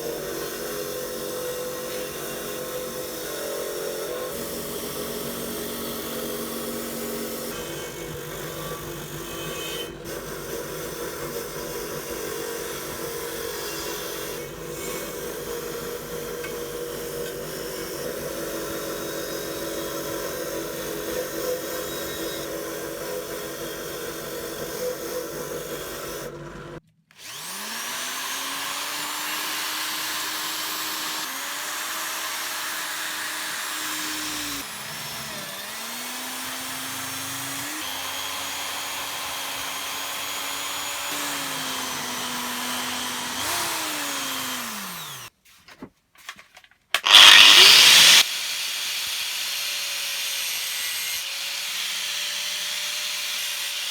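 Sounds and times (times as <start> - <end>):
electric motor whining: 0.0 - 45.3, 47.0 - 48.2
power tool grinding: 0.0 - 45.3, 47.0 - 53.9.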